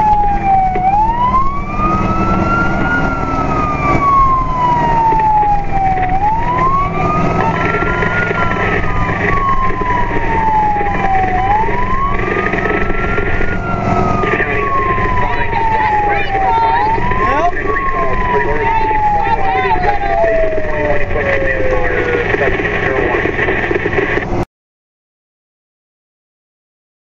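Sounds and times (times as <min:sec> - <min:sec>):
fire truck siren wailing: 0:00.0 - 0:24.4
truck engine: 0:00.0 - 0:24.4
road noise: 0:00.0 - 0:24.5.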